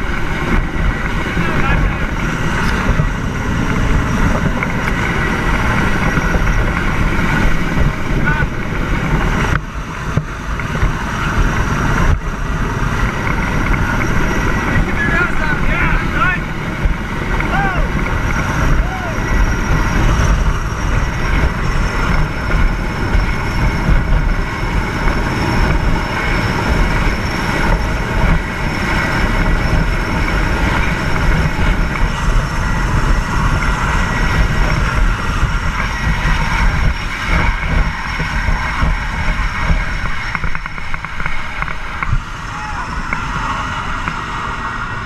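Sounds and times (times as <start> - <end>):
helicopter rotor and turbine: 0.0 - 45.0
wind buffeting microphone: 0.0 - 45.0.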